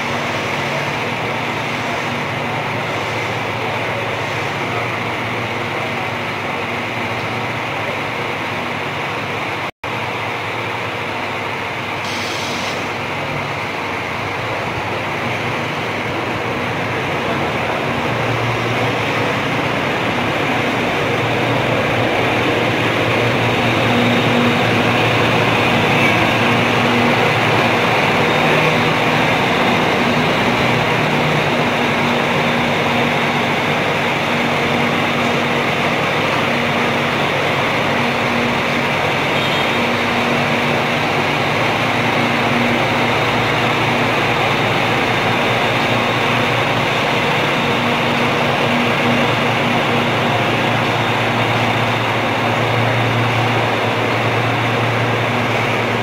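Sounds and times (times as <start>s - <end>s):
bus diesel engine driving past: 0.0s - 56.0s.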